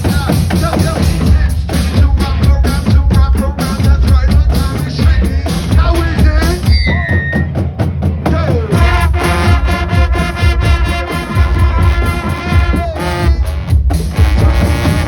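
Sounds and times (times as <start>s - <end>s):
band music with drum kit: 0.0s - 15.0s
heavy kick drum: 0.0s - 15.0s.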